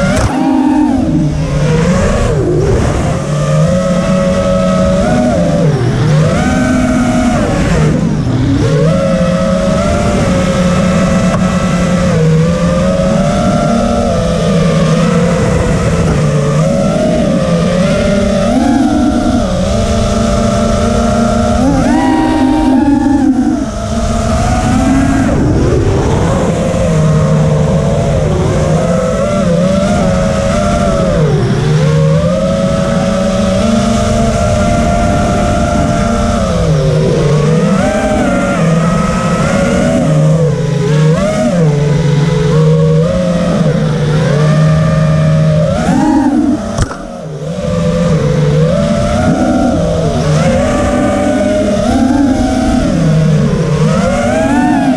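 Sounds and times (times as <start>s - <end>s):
quadcopter motors whining: 0.0s - 54.9s.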